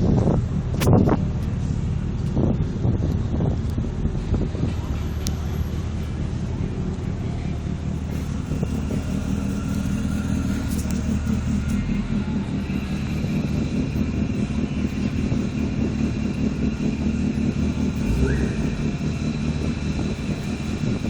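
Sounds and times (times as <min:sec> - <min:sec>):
car engine running steadily: 0:00.0 - 0:21.0.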